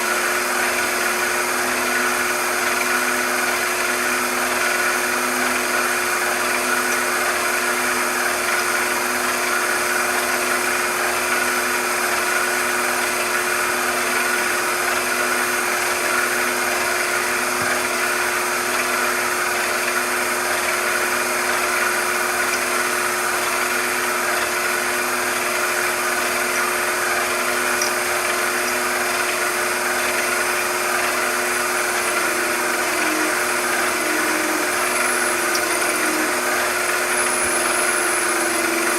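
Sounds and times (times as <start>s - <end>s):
gear whine: 0.0s - 38.9s
machine tool motor hum: 0.0s - 38.9s.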